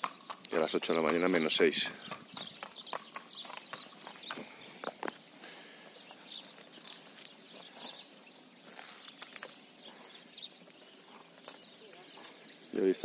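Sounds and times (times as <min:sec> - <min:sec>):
hooves clopping on pavement: 0:00.0 - 0:13.0
small birds chirping: 0:00.0 - 0:13.0
hoof steps on grass: 0:02.0 - 0:12.5.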